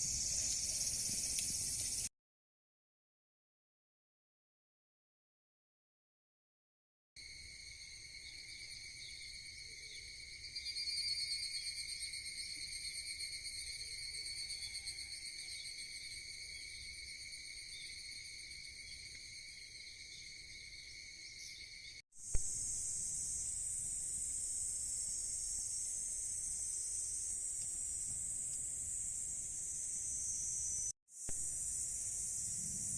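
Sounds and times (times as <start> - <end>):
higher denser insect chorus: 0.0 - 2.1, 7.2 - 32.9
summer insects chorus: 0.0 - 2.1, 7.2 - 32.9.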